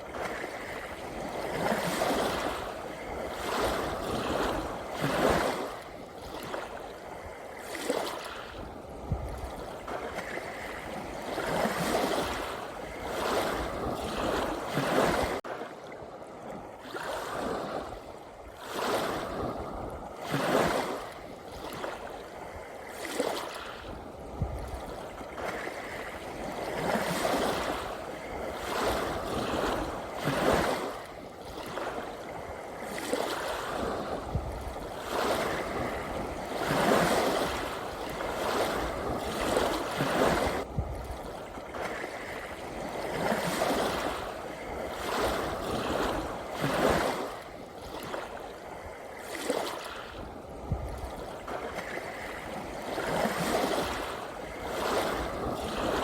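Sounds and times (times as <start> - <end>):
gentle ocean waves washing in: 0.0 - 56.0.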